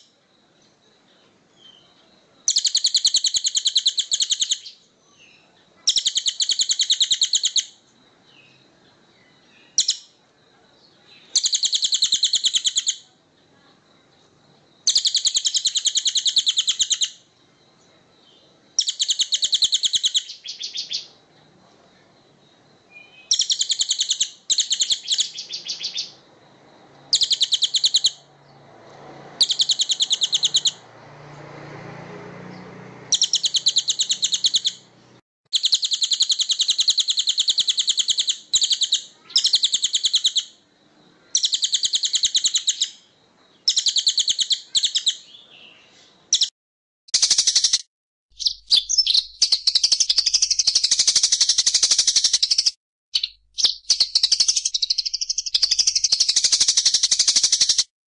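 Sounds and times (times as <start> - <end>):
songbird singing trills: 0.0 - 46.5, 47.1 - 57.9.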